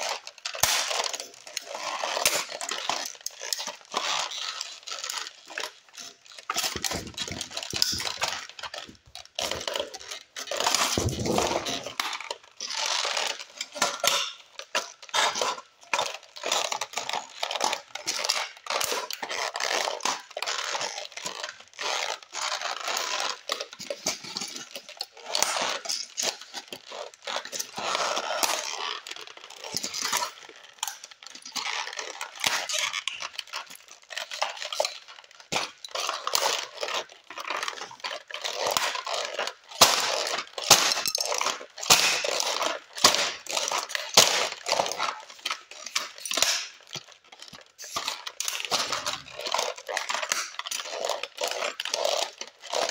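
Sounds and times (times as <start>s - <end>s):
scraping on concrete: 0.0s - 52.9s
toy cars crunching underfoot: 0.0s - 52.9s.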